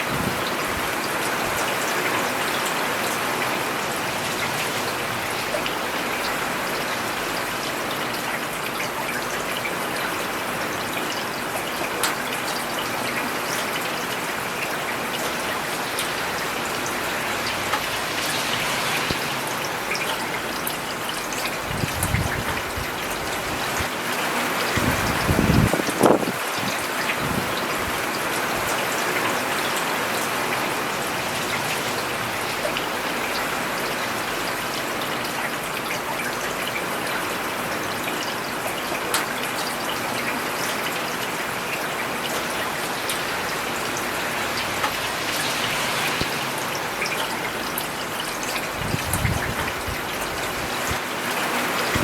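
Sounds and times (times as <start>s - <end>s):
rain on a paved road: 0.0s - 52.0s.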